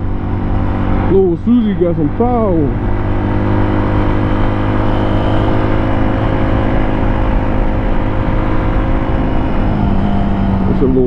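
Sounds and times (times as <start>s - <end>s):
motorcycle engine running: 0.0s - 11.0s
wind rushing: 2.0s - 11.0s.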